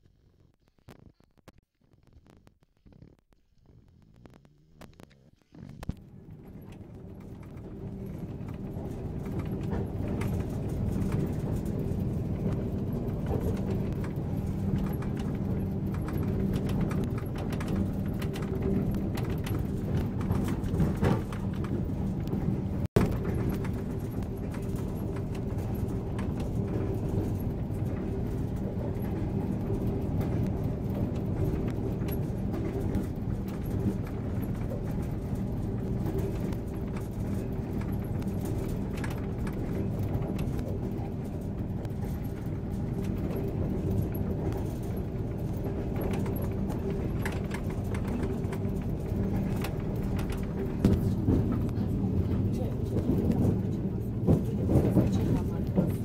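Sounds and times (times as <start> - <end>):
train rolling with light rattling: 5.1 - 56.0.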